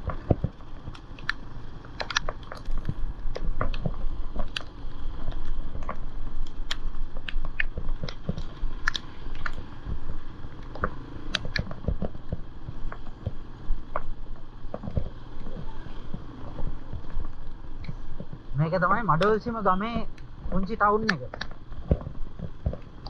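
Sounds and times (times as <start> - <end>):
motorcycle engine drone: 0.0 - 23.0
raindrops tapping on camera: 0.0 - 23.0.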